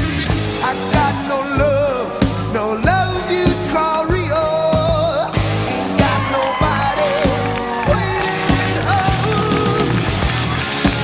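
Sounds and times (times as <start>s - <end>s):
rock guitar: 0.0s - 11.0s
steady drum beat: 0.0s - 11.0s.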